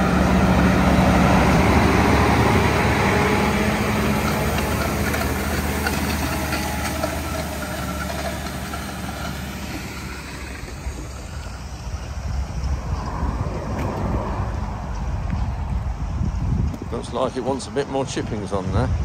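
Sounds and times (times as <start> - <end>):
lorry diesel engine running: 0.0 - 19.0.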